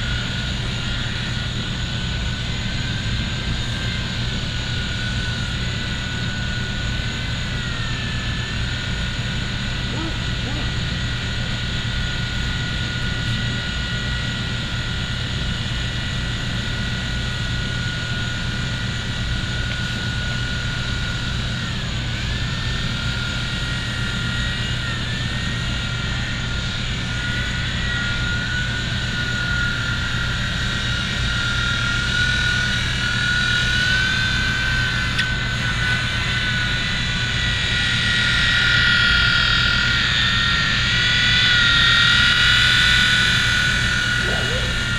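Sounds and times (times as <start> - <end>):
toy helicopter motor whine: 0.0 - 44.9.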